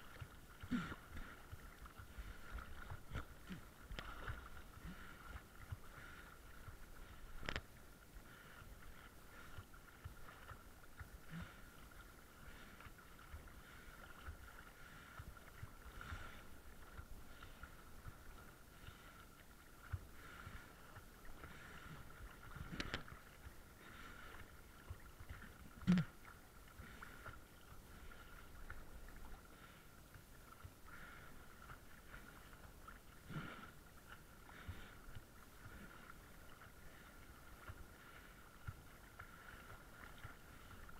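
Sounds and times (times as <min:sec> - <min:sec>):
water sloshing against camera: 0:00.0 - 0:40.9.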